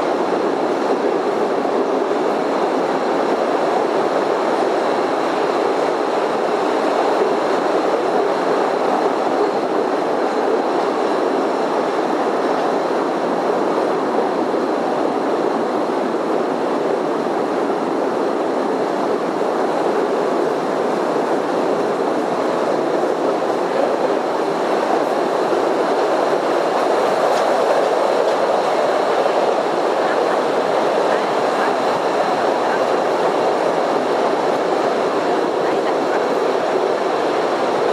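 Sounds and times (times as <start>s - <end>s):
train running on rails: 0.0s - 37.9s.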